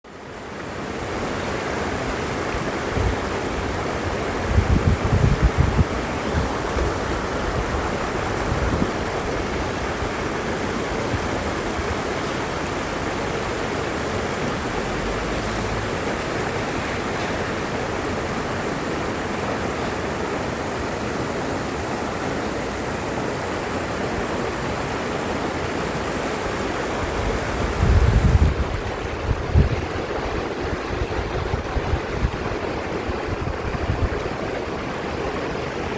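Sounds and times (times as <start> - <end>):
stream rushing over rocks: 0.1 - 35.9
wind gust on microphone: 1.0 - 35.9.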